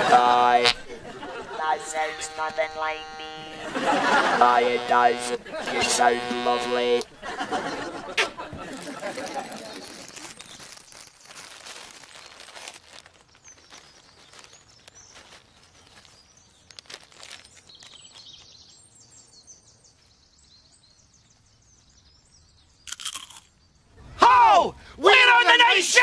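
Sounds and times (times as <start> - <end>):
small birds chirping: 0.4 - 24.2.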